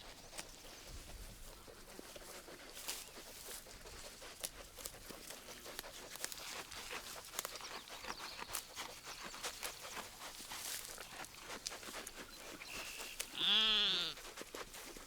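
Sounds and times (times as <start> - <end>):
sheep tearing grass: 1.4 - 15.0.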